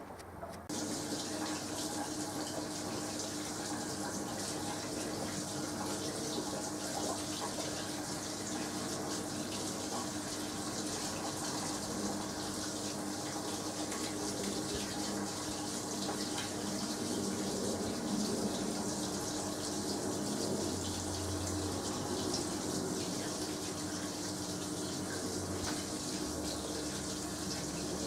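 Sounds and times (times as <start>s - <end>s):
washing machine low hum: 0.0s - 28.0s.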